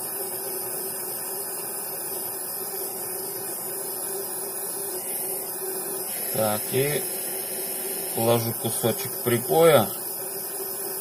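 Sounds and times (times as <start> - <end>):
steady hum: 0.0 - 11.0
torch flame hissing: 0.0 - 11.0.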